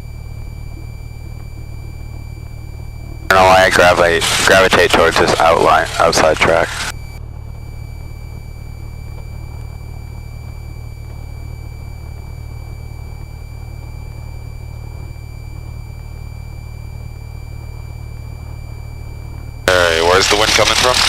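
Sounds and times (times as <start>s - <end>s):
aircraft engine droning: 0.0s - 21.0s
high-pitched whine: 0.0s - 21.0s.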